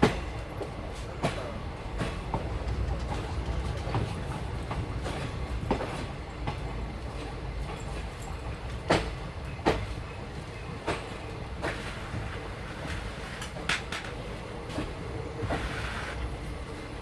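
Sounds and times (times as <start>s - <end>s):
wheels clicking over rail joints: 0.0s - 16.2s
train rumbling: 0.0s - 17.0s.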